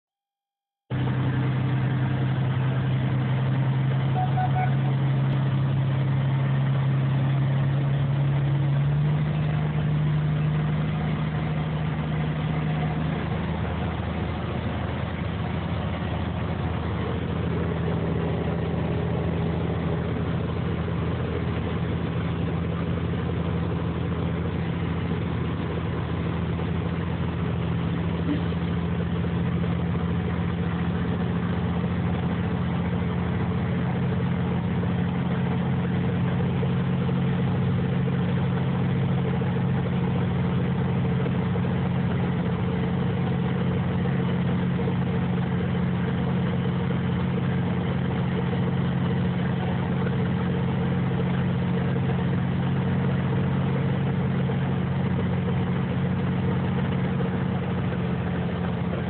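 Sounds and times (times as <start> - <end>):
vehicle engine running: 0.6 - 59.0.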